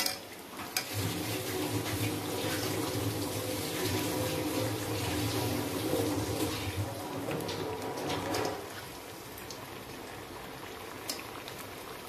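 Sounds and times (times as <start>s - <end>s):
deep-frying sizzle in oil: 0.0s - 12.0s.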